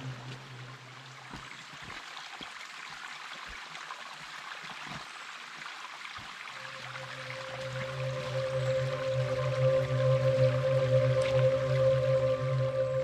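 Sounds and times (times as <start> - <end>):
water dripping and splashing: 0.0 - 13.0
water rushing: 0.0 - 13.0.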